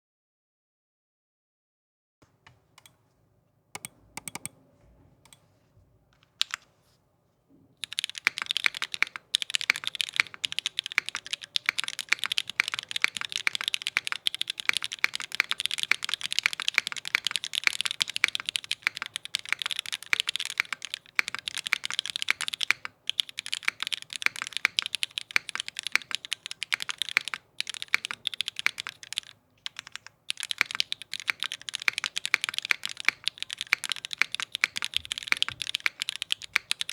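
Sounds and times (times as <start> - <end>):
typing on mechanical keyboard: 3.8 - 4.5, 6.2 - 6.6, 7.8 - 36.9.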